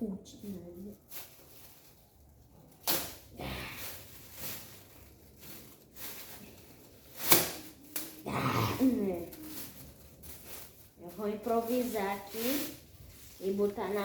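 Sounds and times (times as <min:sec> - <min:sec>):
plastic material crinkling: 0:00.0 - 0:14.0.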